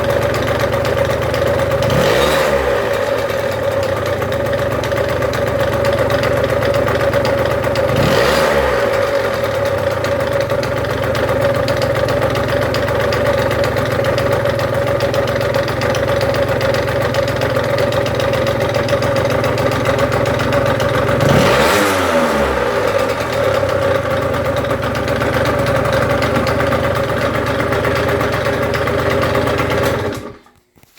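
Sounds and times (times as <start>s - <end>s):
vehicle engine idling and revving: 0.0s - 30.4s.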